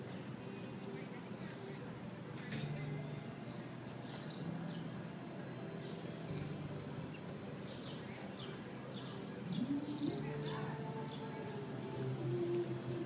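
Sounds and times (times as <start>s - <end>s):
birds chirping: 2.4s - 13.0s.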